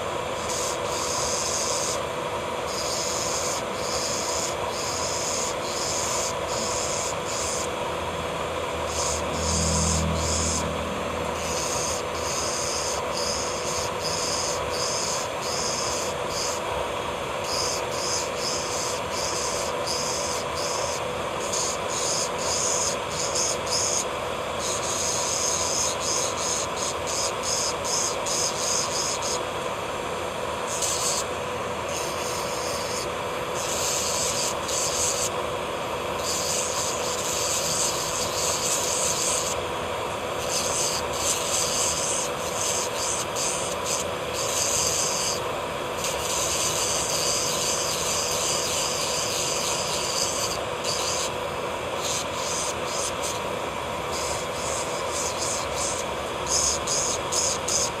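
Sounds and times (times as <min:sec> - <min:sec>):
drill bit grinding nail: 0:00.0 - 0:29.7, 0:30.4 - 0:58.0
electric nail drill whining: 0:00.0 - 0:58.0.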